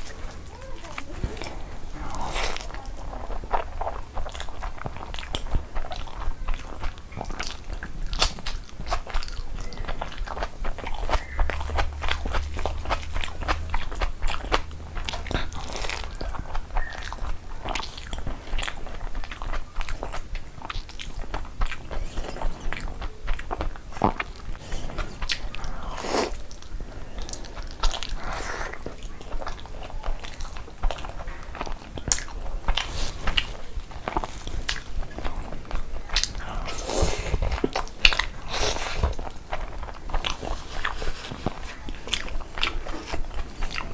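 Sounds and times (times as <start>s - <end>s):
wet chewing and lip smacking: 0.0s - 43.9s.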